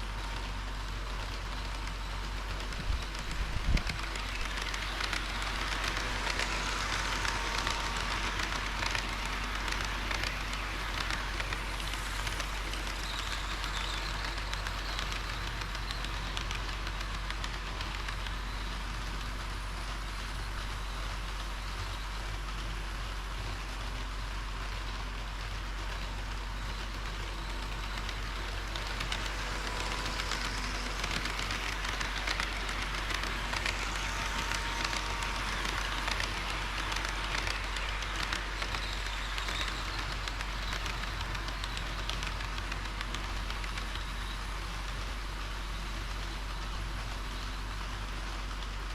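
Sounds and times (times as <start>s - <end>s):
model train wheels rolling on rail: 0.0s - 48.9s.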